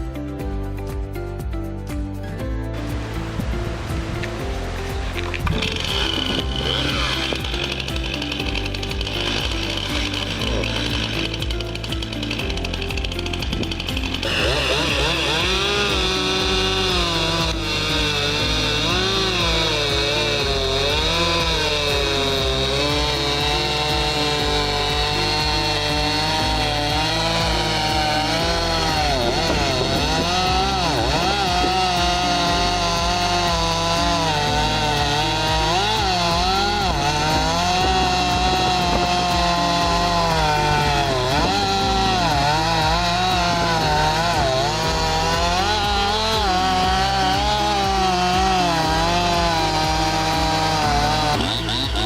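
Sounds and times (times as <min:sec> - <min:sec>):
chainsaw cutting log: 0:02.8 - 0:52.0.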